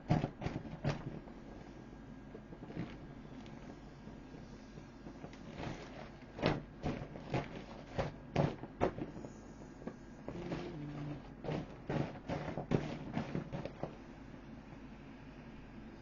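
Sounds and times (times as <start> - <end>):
vinyl boat knocking and crackling: 0.0 - 14.9.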